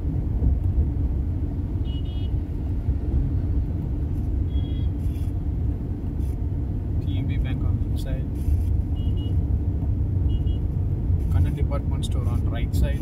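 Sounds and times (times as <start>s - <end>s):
tyres on road: 0.0s - 13.0s
vehicle engine rumble: 0.0s - 13.0s.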